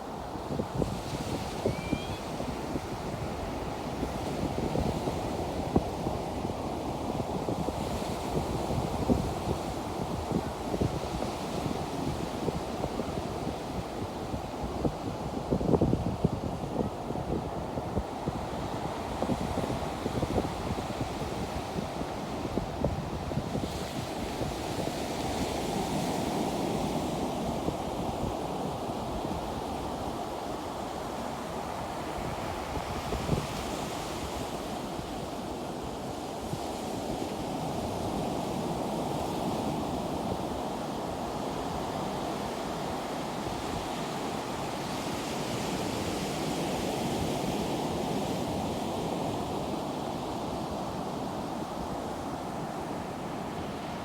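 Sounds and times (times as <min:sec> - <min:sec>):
ocean surf washing ashore: 0:00.0 - 0:54.0.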